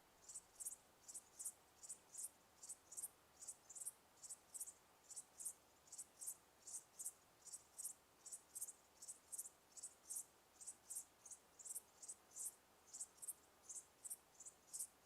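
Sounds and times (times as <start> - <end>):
faint hiss: 0.0 - 15.0
cricket chirping: 0.2 - 15.0.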